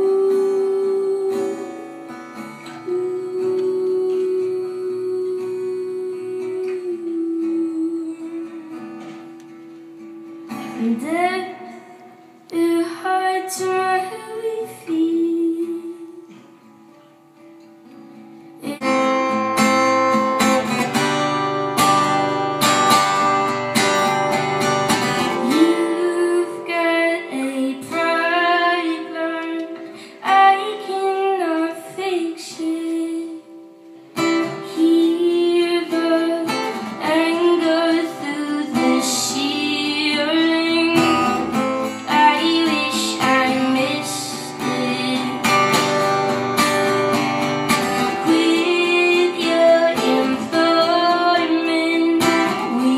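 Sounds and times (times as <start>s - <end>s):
woman singing: 0.0s - 9.4s, 10.5s - 16.7s, 18.6s - 23.5s, 24.9s - 52.9s
strummed acoustic guitar: 0.0s - 52.9s.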